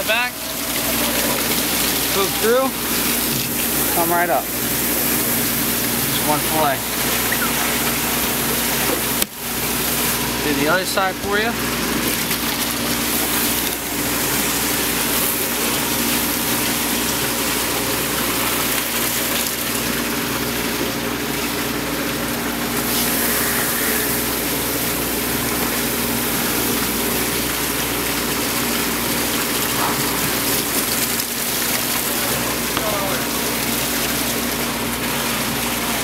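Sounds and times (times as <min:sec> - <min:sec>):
low machine hum: 0:00.0 - 0:36.0
rushing water: 0:00.0 - 0:36.0.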